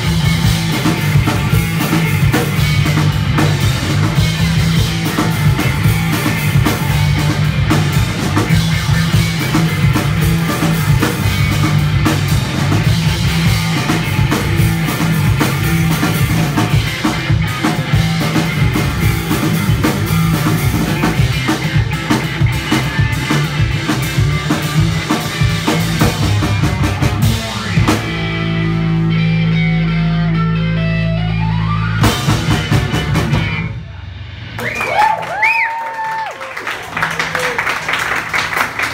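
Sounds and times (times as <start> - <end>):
distorted electric guitar: 0.0 - 34.8
bass guitar: 0.0 - 38.9
drum kit: 0.0 - 38.9.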